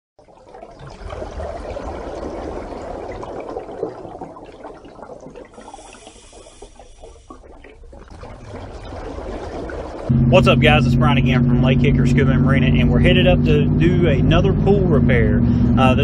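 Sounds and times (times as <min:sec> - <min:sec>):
rushing water: 0:00.2 - 0:14.7.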